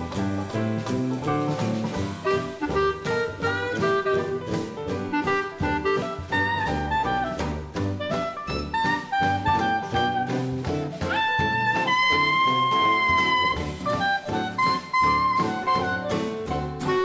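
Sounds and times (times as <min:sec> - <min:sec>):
jazz music with horn melody: 0:00.0 - 0:17.0.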